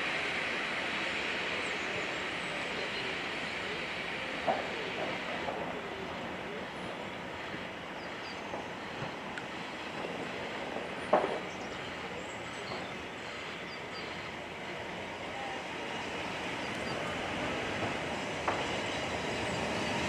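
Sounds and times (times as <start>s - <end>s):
train rumble and hiss: 0.0s - 20.0s.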